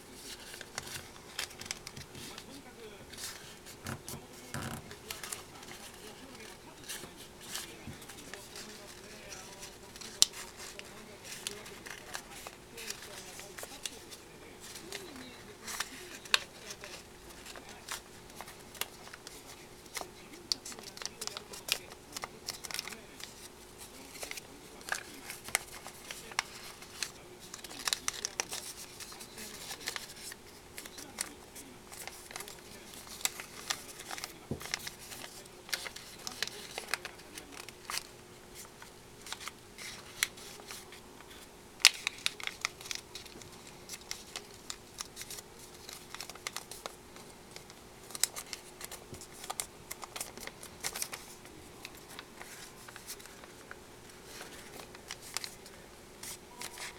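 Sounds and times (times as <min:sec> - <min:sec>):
faint steady hum: 0:00.0 - 0:56.9
paper crinkling and crackling: 0:00.0 - 0:56.9.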